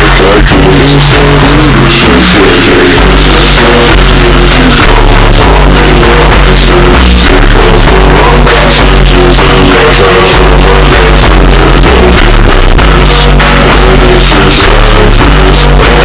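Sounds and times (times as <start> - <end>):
loud compressed rock music: 0.0 - 16.0.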